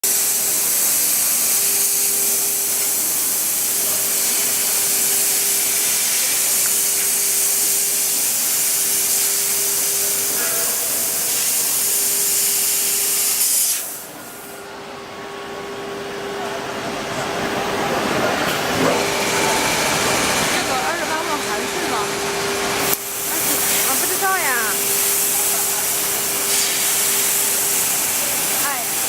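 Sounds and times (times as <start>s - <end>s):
cutting machine high hiss: 0.0s - 14.7s, 18.6s - 29.0s.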